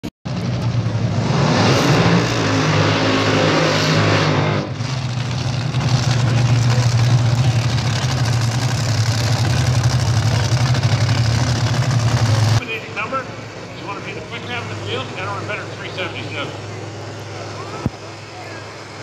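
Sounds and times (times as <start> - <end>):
dragster engine running rough: 0.3 - 19.0.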